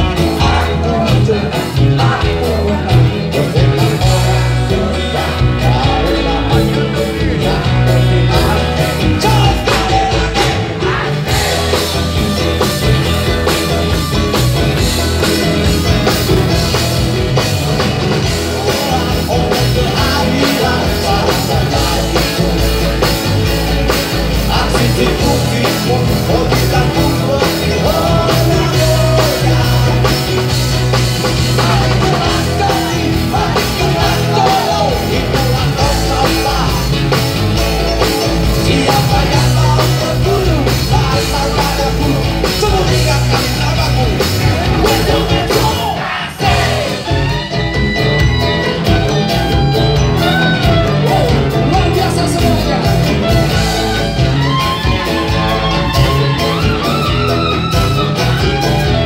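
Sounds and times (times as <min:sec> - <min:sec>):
drum kit beat: 0:00.0 - 0:59.0
live rock band through speakers: 0:00.0 - 0:59.0.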